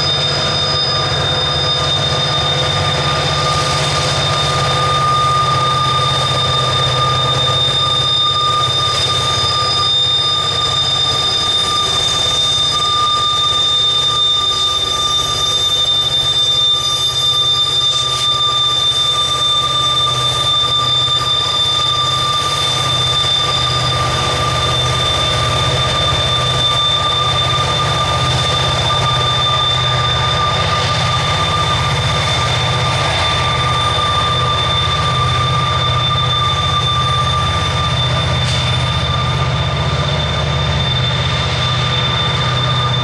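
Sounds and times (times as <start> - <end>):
diesel locomotives under load: 0.0 - 43.0
high whine: 0.0 - 43.0.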